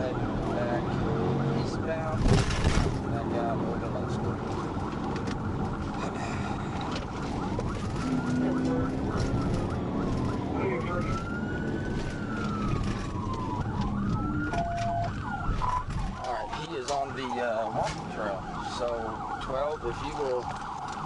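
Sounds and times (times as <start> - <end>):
police siren wailing: 0.0 - 21.0
vehicle and road noise: 0.0 - 21.0.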